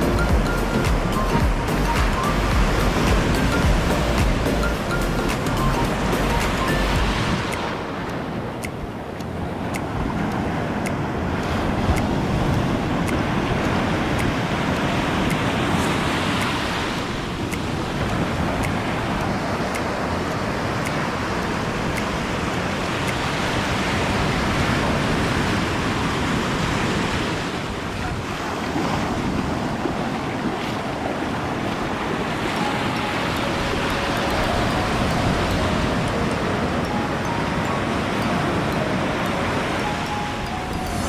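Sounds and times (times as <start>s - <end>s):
waves breaking on a beach: 0.0s - 41.0s.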